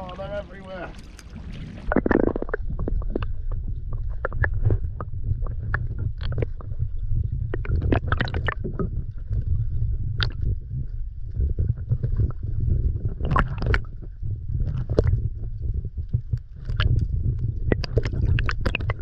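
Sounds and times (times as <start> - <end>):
muffled underwater rumble: 0.0 - 19.0
underwater clicks and crackles: 0.0 - 19.0.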